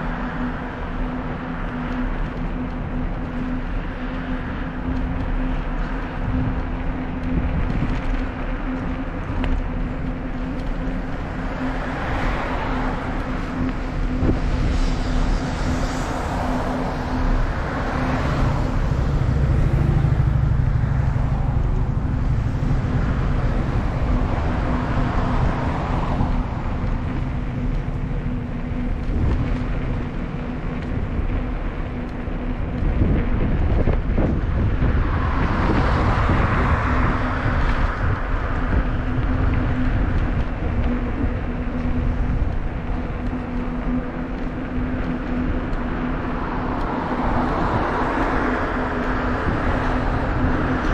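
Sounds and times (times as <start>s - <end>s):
cars passing: 0.0s - 50.9s
wind and rolling noise: 0.0s - 50.9s.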